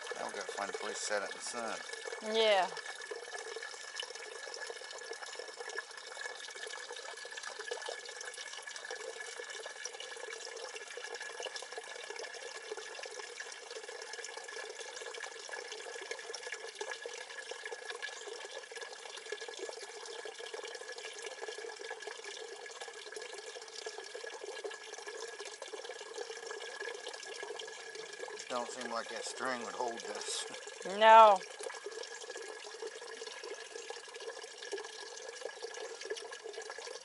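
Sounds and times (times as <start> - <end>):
water pouring into plastic bag: 0.0 - 37.0.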